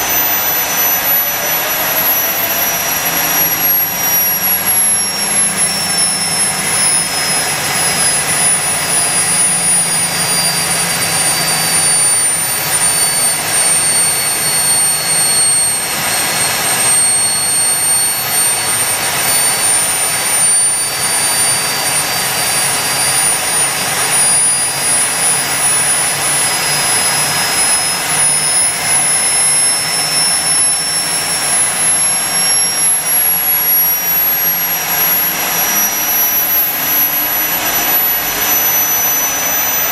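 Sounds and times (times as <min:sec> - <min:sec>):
model helicopter turbine whining: 0:00.0 - 0:39.9.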